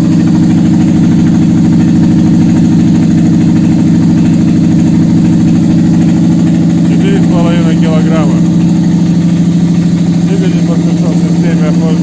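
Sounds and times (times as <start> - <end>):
petrol engine idling: 0.0 - 12.0.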